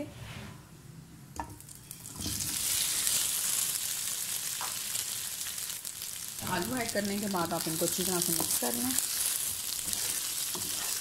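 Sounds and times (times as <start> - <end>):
potatoes sizzling in oil: 1.6 - 11.0.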